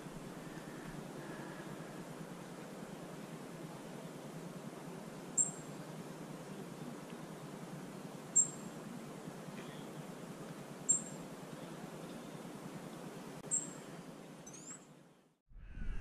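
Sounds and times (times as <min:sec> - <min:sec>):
low background hiss: 0:00.0 - 0:15.4.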